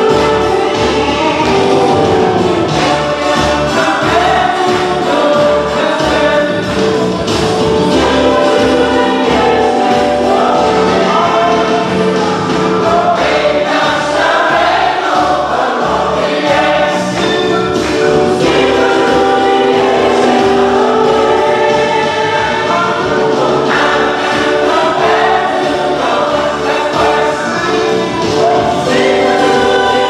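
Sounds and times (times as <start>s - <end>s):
choir singing gospel: 0.0s - 30.0s.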